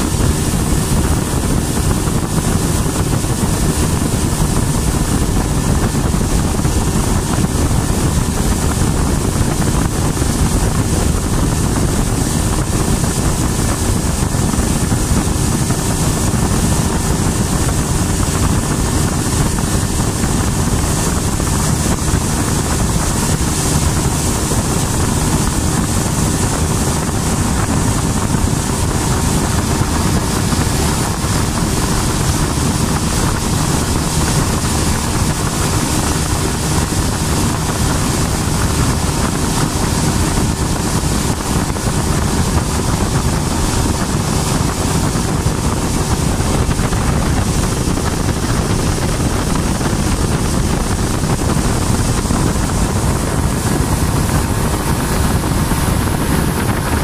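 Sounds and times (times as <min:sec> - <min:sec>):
motorboat engine running: 0:00.0 - 0:57.0
wind on microphone: 0:00.0 - 0:57.0.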